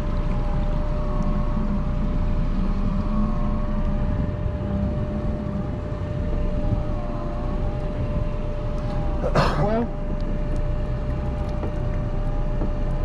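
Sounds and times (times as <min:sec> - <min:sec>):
boat engine rumbling: 0:00.0 - 0:13.0
steady whine: 0:00.0 - 0:13.0.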